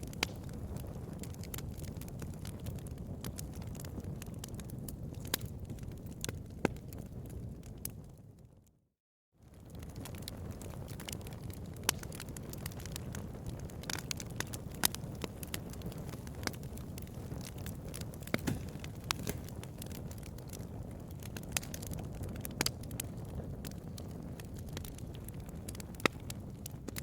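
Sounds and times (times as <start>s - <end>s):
fire crackling and popping: 0.0s - 8.6s, 9.4s - 27.0s
rumble of flames: 0.0s - 8.7s, 9.4s - 27.0s.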